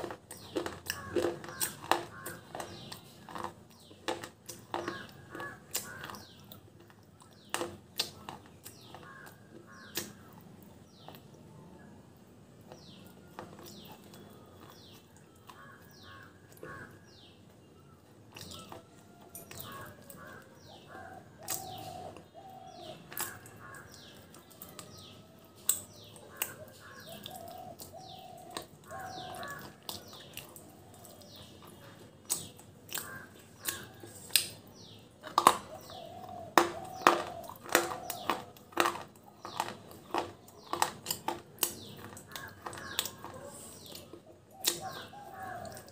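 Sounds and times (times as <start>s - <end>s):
clay being crunched and chewed: 0.0s - 11.4s, 18.3s - 45.9s
birds chirping: 0.0s - 45.9s.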